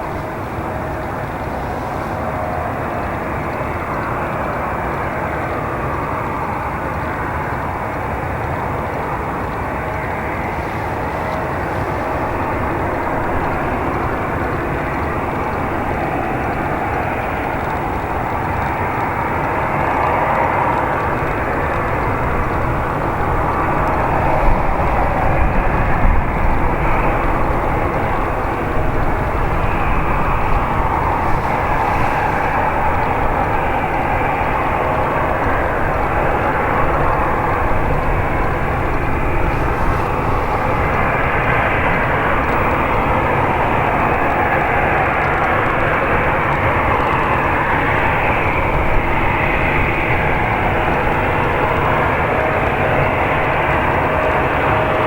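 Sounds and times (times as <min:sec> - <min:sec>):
jet engine noise: 0:00.0 - 0:55.0.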